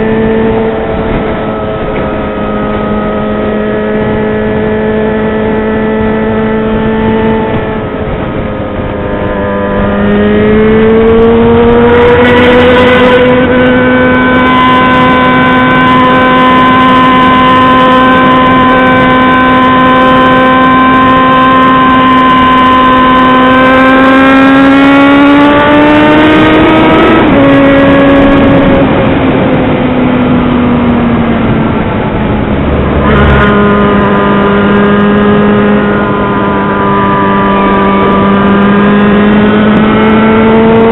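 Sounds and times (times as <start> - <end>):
motorcycle engine running under load: 0.0 - 40.9.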